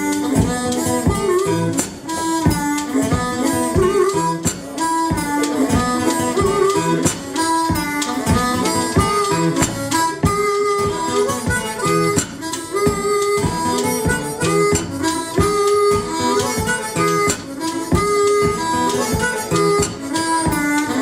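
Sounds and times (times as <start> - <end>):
blues guitar and drums: 0.0 - 21.0
harmonica riff: 0.0 - 21.0.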